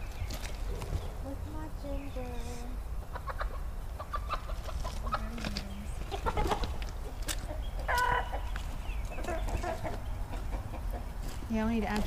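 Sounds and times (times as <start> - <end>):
chickens clucking: 0.0 - 11.6.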